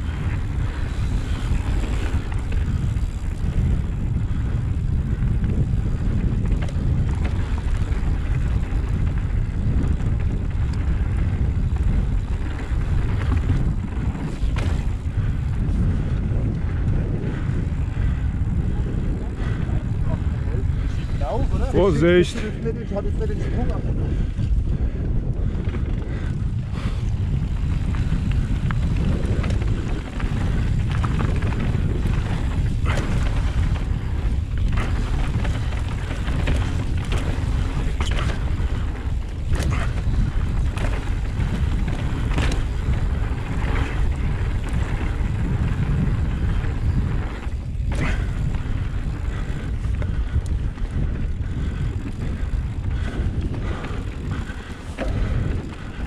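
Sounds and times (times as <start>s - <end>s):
bike clacking and rattling: 0.0s - 56.0s
wind buffeting microphone: 0.0s - 56.0s.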